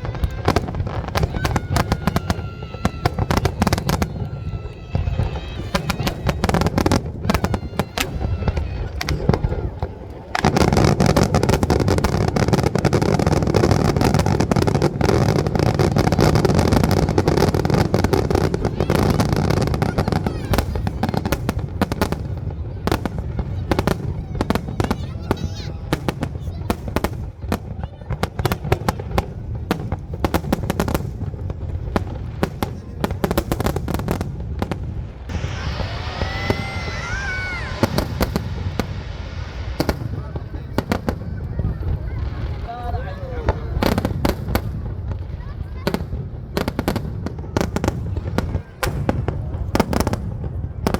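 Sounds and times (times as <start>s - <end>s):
fireworks bangs and crackles: 0.0s - 50.9s
fireworks hiss: 0.0s - 50.9s
fireworks whistling: 0.0s - 50.9s.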